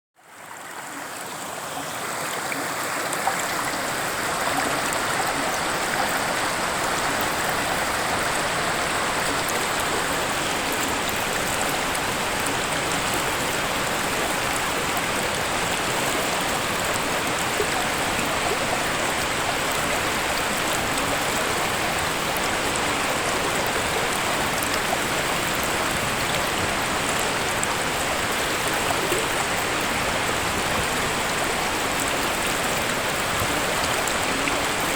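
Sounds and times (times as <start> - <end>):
waterfall rushing: 0.8 - 34.9.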